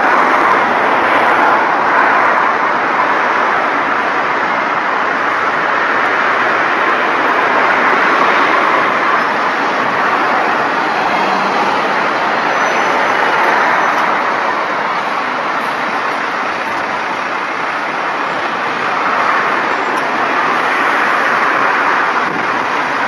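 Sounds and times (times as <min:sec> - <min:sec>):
road traffic and bus engines: 0:00.0 - 0:23.0.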